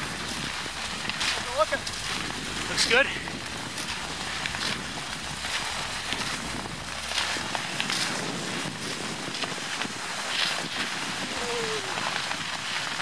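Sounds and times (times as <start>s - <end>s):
skis swishing on snow: 0.0s - 13.0s
wind rumbling on microphone: 0.0s - 13.0s.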